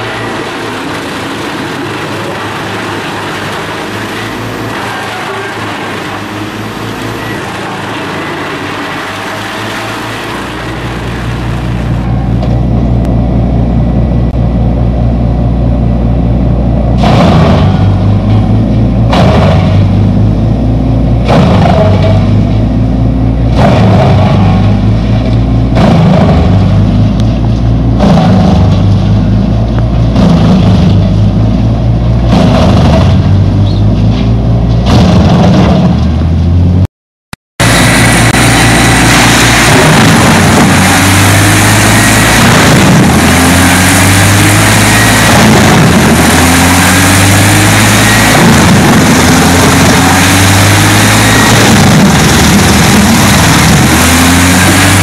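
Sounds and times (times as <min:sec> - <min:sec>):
wood chipper engine running: 0:00.0 - 0:36.8, 0:37.6 - 0:55.0.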